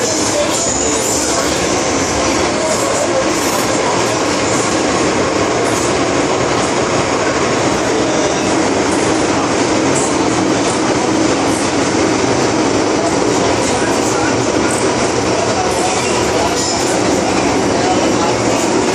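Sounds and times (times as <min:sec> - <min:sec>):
metro car wheels on rails: 0:00.0 - 0:18.9
train rumbling through tunnel: 0:00.0 - 0:18.9.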